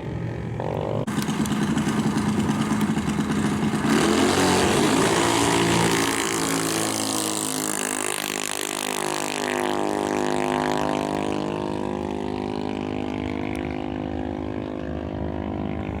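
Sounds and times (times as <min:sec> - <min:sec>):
dragster engine running: 0:00.6 - 0:15.5.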